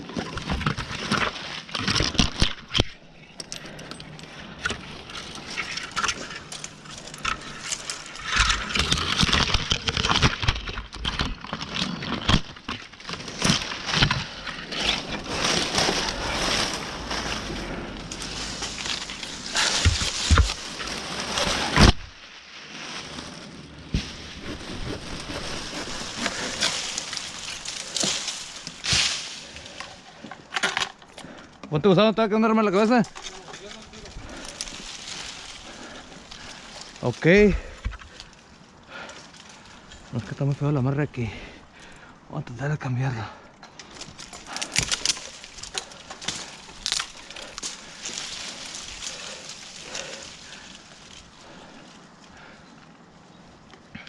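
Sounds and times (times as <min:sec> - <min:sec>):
leaves and twigs rustling: 0:00.0 - 0:54.0.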